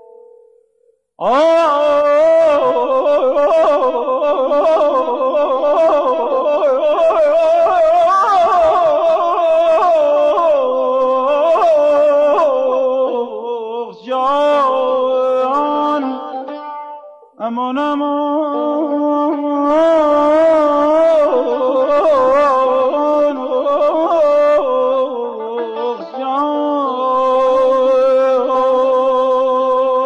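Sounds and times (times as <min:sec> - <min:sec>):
man singing wordless trills: 0:01.2 - 0:30.0.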